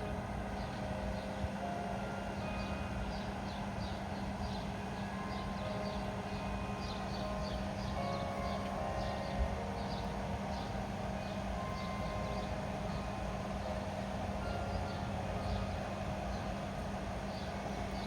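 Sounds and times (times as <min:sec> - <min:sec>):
birds chirping: 0:00.0 - 0:18.0
church bell chimes: 0:00.0 - 0:18.0.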